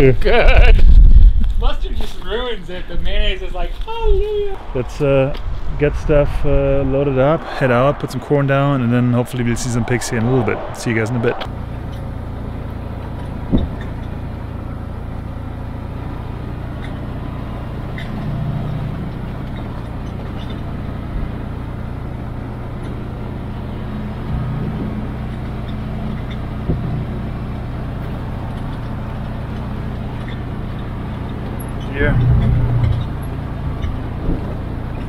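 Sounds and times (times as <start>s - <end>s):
vehicle engine drone: 0.0s - 35.0s.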